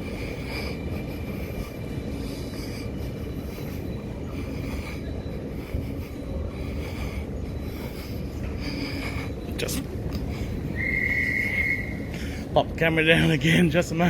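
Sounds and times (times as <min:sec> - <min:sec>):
train wheel squeals: 0:00.0 - 0:12.5
train rumble: 0:00.0 - 0:14.0.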